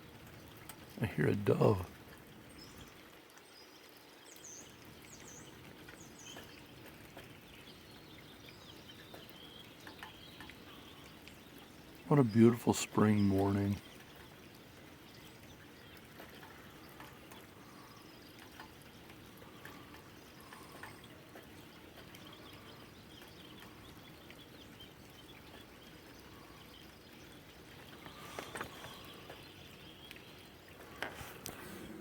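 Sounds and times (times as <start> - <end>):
rainwater trickling from downspout: 0.0 - 32.0
songbirds chirping: 0.0 - 32.0.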